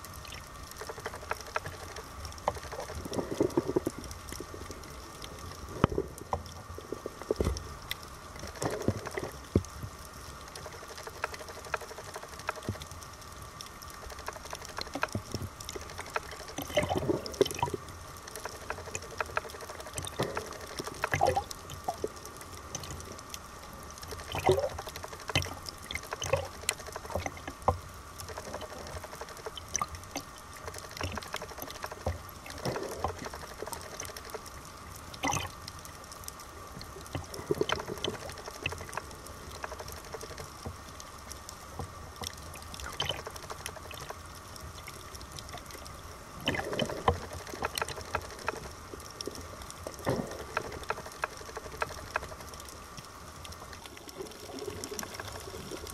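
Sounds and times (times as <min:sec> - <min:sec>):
small clicks: 0:00.0 - 0:55.9
underwater bubbling gurgles: 0:00.0 - 0:55.9.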